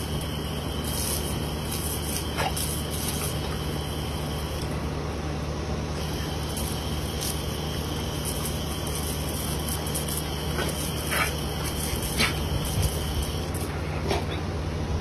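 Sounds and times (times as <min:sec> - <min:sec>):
hose spraying water: 0:00.0 - 0:04.8, 0:06.0 - 0:14.3
low steady hum: 0:00.0 - 0:15.0.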